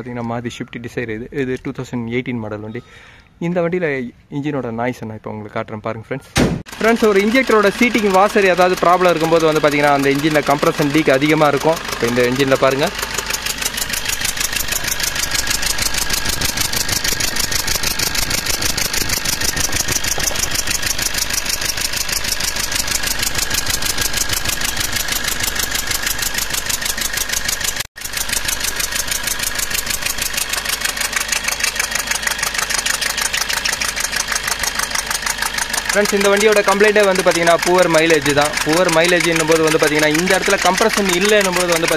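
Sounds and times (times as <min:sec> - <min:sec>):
diesel engine idling with ticking chuff: 0:06.7 - 0:41.9.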